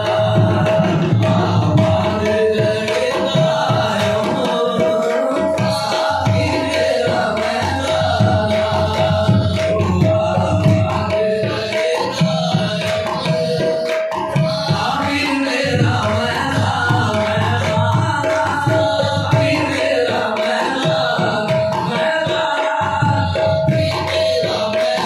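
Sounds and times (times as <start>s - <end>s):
person singing devotional song: 0.0s - 25.0s
tabla: 0.0s - 25.0s.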